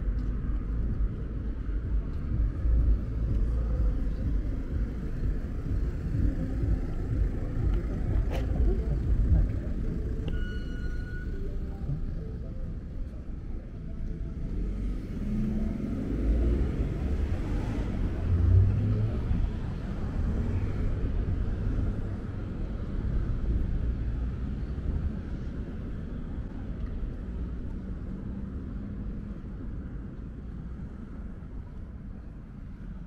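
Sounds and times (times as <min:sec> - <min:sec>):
traffic rumble: 0:00.0 - 0:33.0.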